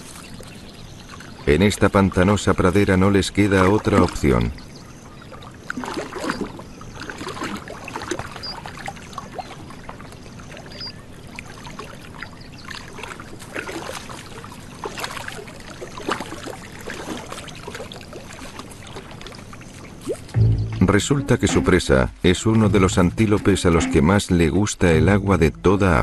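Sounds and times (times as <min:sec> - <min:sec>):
water sloshing and splashing: 0:00.0 - 0:24.6.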